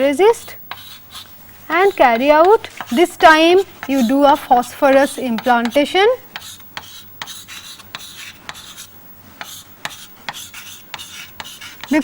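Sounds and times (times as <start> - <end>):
pen scratching on paper: 0.4 - 12.0.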